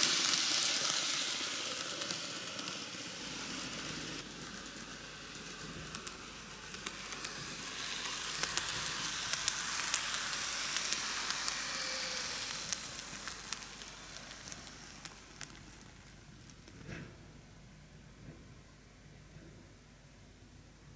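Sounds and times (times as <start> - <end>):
model train motor whir: 0.0 - 17.1
wheels clicking over rail joints: 0.0 - 17.2.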